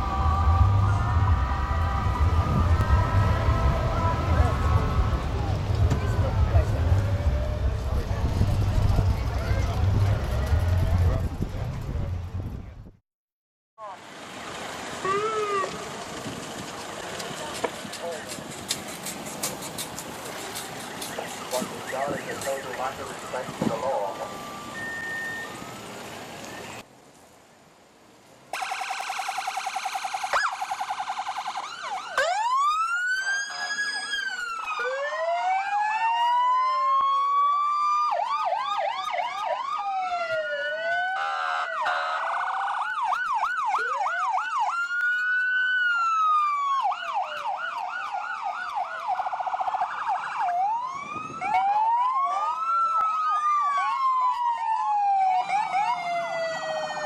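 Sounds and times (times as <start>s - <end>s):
police sirens wailing and yelping: 0.0s - 11.7s, 14.9s - 18.4s, 19.8s - 26.8s, 28.6s - 57.0s.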